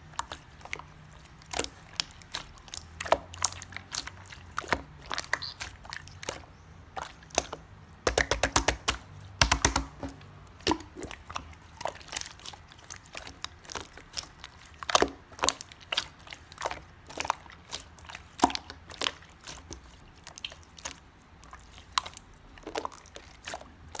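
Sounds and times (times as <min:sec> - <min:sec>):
slime squishing with sticky pops: 0:00.0 - 0:24.0.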